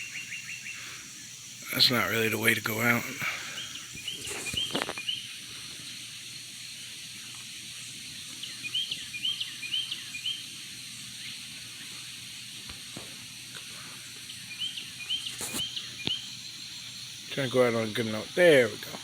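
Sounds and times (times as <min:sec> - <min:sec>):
outdoor background hiss: 0:00.0 - 0:19.0
small birds chirping: 0:00.0 - 0:19.0.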